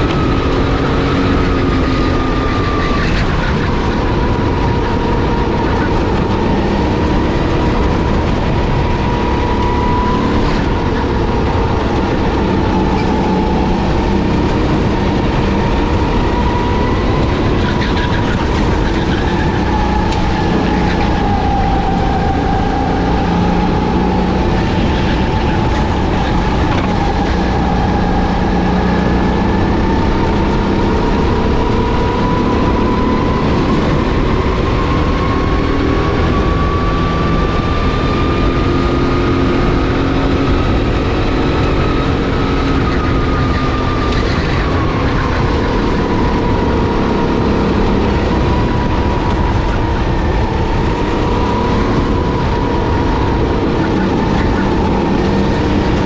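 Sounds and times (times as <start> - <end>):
kart engine droning: 0.0 - 56.0.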